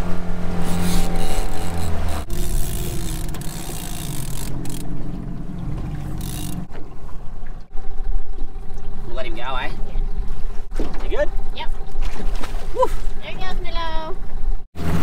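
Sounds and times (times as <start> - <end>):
water wash: 0.0 - 13.8
outboard motor running: 0.0 - 15.0
wind: 0.0 - 15.0.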